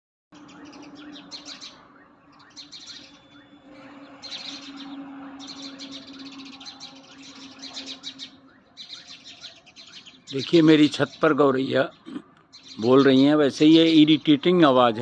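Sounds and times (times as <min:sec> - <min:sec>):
sparrows chirping: 0:00.3 - 0:15.0.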